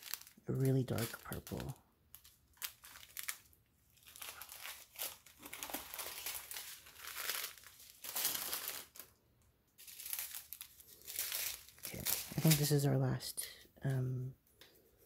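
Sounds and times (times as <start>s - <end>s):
plastic bags crinkling: 0.0s - 9.2s, 9.8s - 13.3s.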